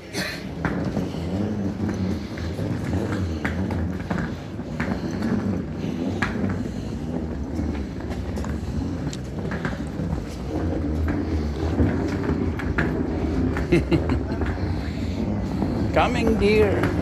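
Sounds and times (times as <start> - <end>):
footsteps on stone pavement: 0.0 - 17.0
low street rumble: 0.0 - 17.0.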